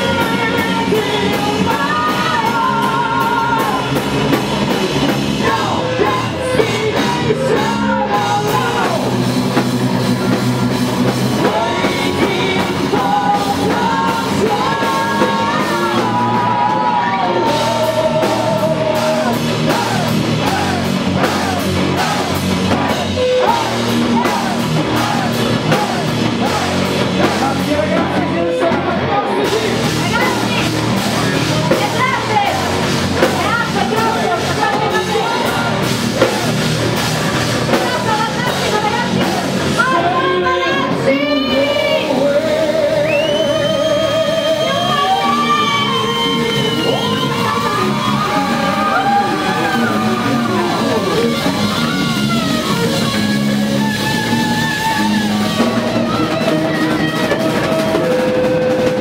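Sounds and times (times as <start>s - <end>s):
woman singing lead: 0.0s - 4.3s, 5.4s - 9.1s, 11.3s - 30.7s, 31.6s - 36.6s, 37.6s - 59.0s
drum kit: 0.0s - 59.0s
electric guitar: 0.0s - 59.0s.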